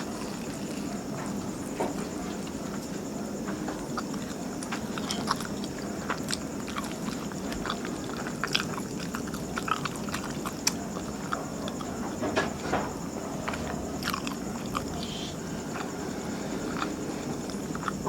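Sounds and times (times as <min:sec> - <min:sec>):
close chewing with mouth clicks: 0:00.0 - 0:02.9, 0:03.5 - 0:12.2, 0:13.4 - 0:18.0
steady background hum: 0:00.0 - 0:18.0.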